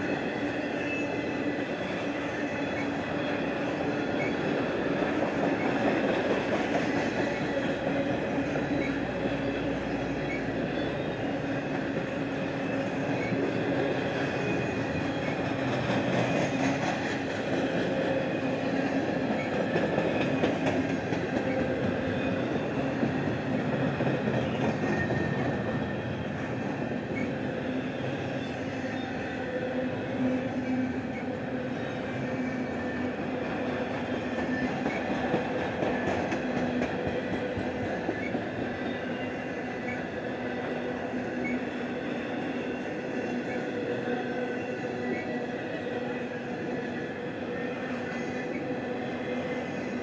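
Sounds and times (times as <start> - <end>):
freight train wheels and rattle: 0.0 - 50.0.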